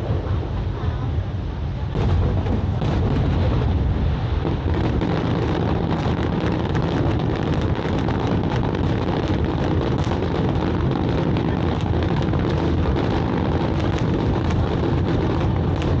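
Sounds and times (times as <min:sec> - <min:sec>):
fireworks booming and crackling: 0:00.0 - 0:16.0.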